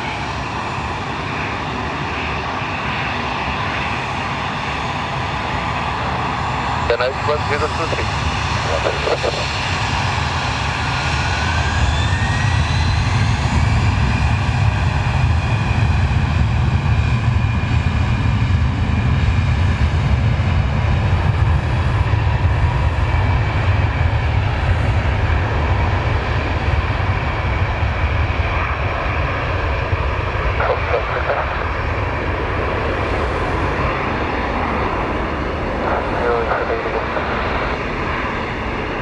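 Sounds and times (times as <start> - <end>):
jet engines rumbling with high whine: 0.0 - 39.0.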